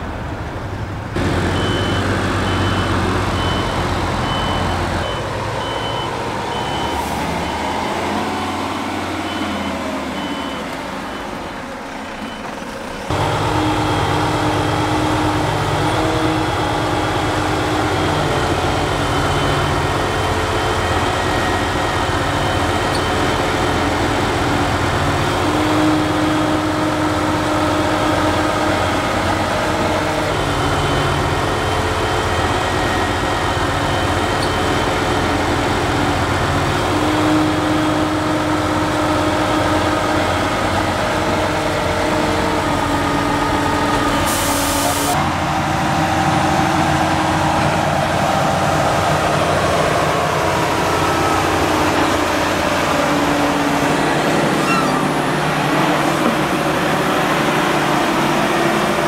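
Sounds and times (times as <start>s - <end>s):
diesel engine running: 0.0s - 59.0s
truck reversing alarm beeping: 1.2s - 59.0s.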